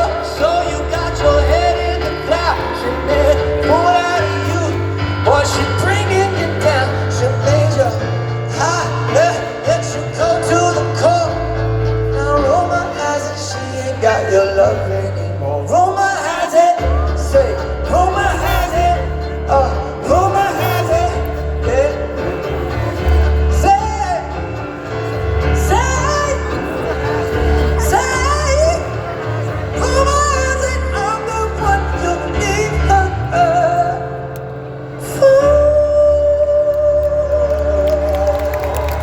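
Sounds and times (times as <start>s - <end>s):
live band playing pop song: 0.0s - 39.0s
man singing lead vocal: 0.0s - 39.0s.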